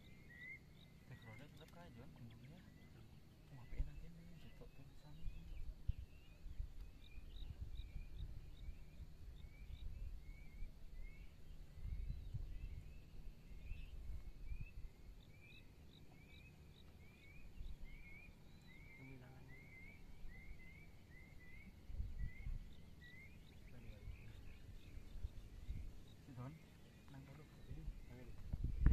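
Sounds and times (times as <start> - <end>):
faint low rumble: 0.0 - 28.9
small birds chirping: 0.0 - 28.9.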